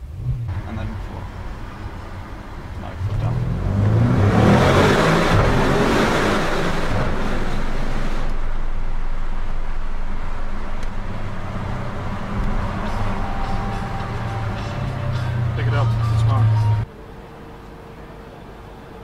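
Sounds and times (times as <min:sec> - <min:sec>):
car engine accelerating hard: 0:00.0 - 0:16.9.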